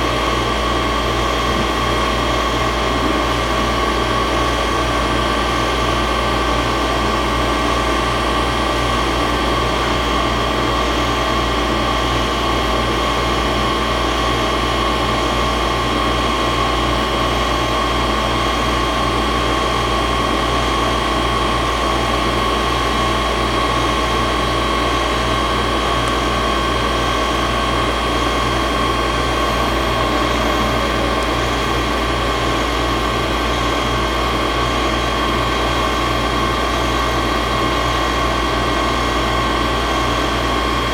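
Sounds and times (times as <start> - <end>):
milling machine hum and whine: 0.0 - 40.9.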